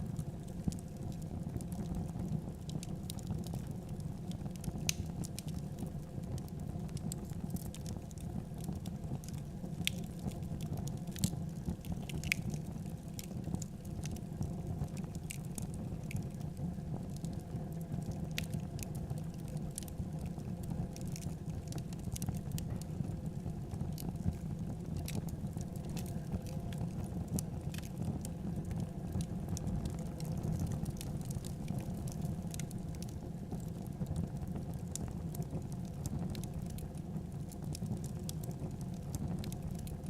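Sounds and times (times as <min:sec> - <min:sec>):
low rumble of flame: 0:00.0 - 0:40.0
wood fire crackling: 0:00.0 - 0:40.0.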